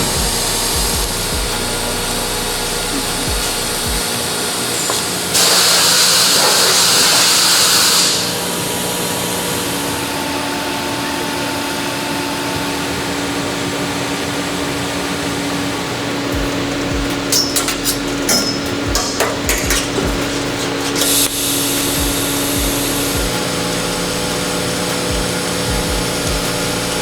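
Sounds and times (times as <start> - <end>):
loud hissing burst: 0.0 - 12.5, 14.2 - 27.0
steady hum: 0.0 - 27.0.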